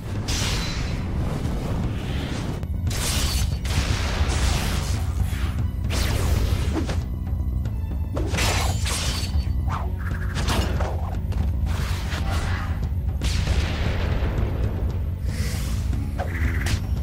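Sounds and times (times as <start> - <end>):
heavy background music: 0.0 - 17.0.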